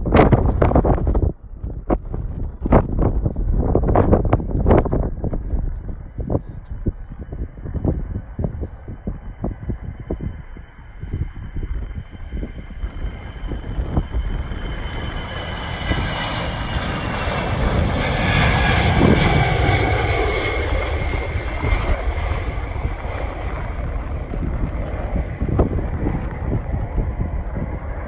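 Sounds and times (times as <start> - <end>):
jet aircraft passing: 0.0 - 28.0
wind buffeting microphone: 0.0 - 28.0.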